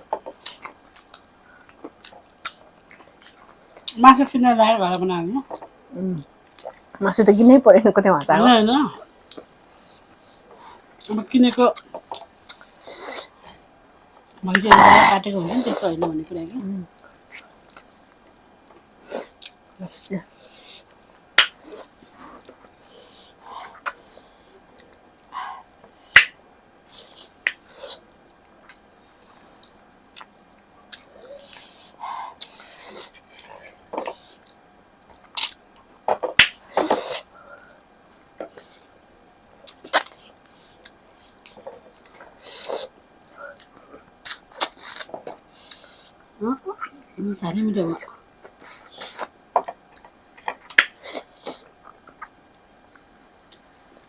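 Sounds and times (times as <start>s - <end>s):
soft wet eating noises: 0.0s - 4.2s, 4.9s - 7.0s, 9.0s - 26.0s, 26.8s - 54.0s.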